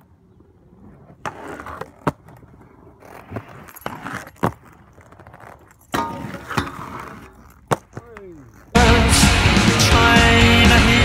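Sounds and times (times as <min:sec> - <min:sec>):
skate grinding on metal rail: 0:00.0 - 0:09.7
inline skates on concrete: 0:00.0 - 0:10.3.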